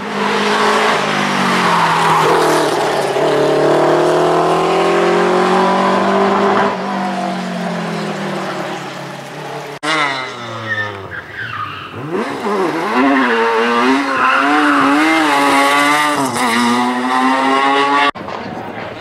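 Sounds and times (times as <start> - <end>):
rally car engine revving: 0.0 - 18.4.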